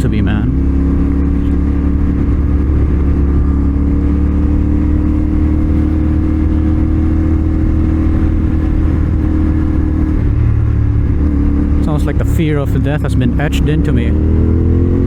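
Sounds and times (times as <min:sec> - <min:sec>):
wind noise: 0:00.0 - 0:13.4
motorcycle engine running: 0:00.0 - 0:15.0
road noise: 0:00.0 - 0:15.0.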